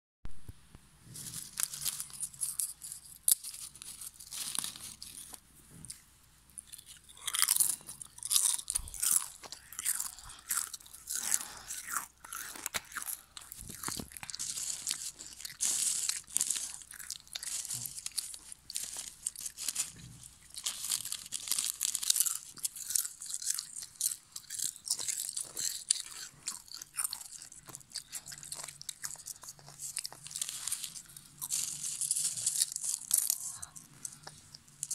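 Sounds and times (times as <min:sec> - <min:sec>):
chips rustling in foil packet: 0:01.1 - 0:05.4, 0:06.6 - 0:34.9
potato chips crunching: 0:01.1 - 0:34.9.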